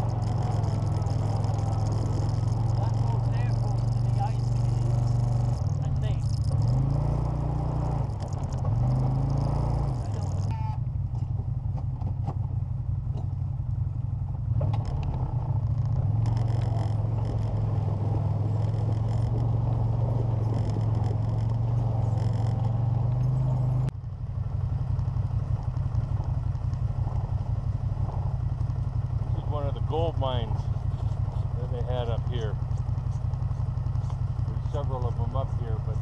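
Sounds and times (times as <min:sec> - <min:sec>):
vehicle body rattling: 0:00.0 - 0:13.4, 0:14.5 - 0:23.9, 0:25.0 - 0:36.0
engine running: 0:00.0 - 0:36.0.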